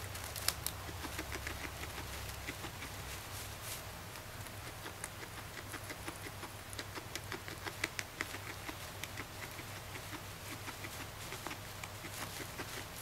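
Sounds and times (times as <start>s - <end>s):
guinea pig chewing hay: 0.0s - 13.0s.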